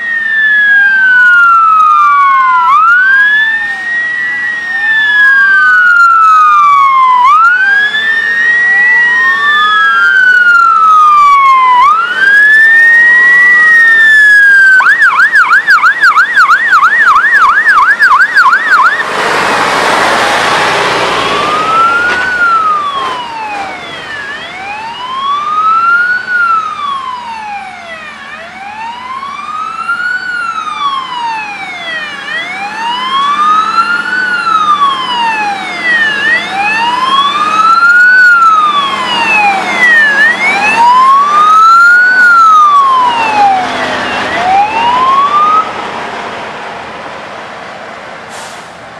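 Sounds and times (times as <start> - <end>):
fire engine sirens wailing: 0.0 - 48.9
truck passing close: 0.0 - 48.9.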